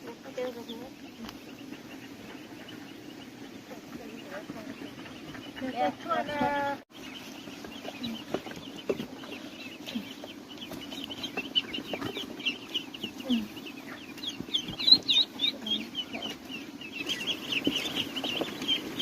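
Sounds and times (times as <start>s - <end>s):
chicks peeping: 0.0s - 19.0s
hens clucking: 0.0s - 19.0s.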